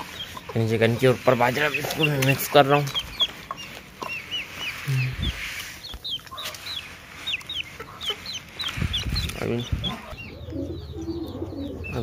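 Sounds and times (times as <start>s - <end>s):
grain rustling in plastic tub: 0.0s - 10.0s
chicks peeping: 0.0s - 12.0s.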